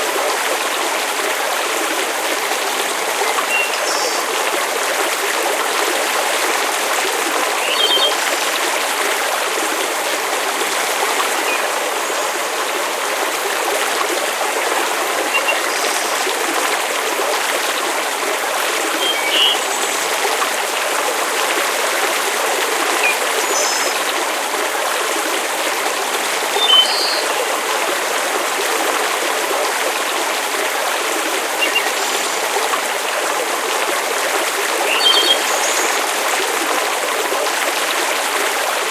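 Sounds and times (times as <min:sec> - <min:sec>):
watery hiss of rain: 0:00.0 - 0:38.9.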